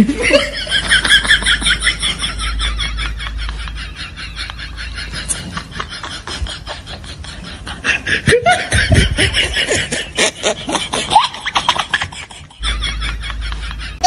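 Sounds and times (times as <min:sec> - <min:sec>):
high-pitched chattering laugh: 0:00.4 - 0:14.0.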